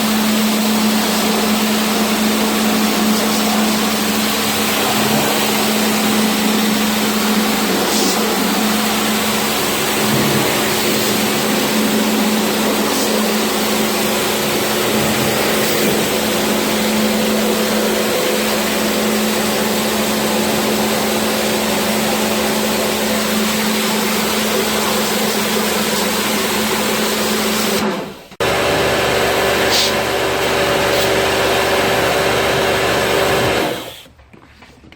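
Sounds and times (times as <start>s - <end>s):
pressure washer motor: 0.0s - 34.1s
hissing water jet: 1.0s - 27.0s, 29.4s - 34.1s.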